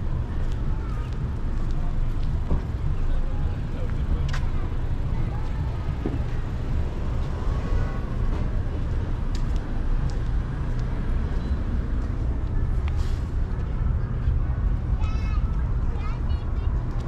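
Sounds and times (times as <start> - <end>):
faint voices of passers-by: 0.0 - 17.0
traffic rumble: 0.0 - 17.0.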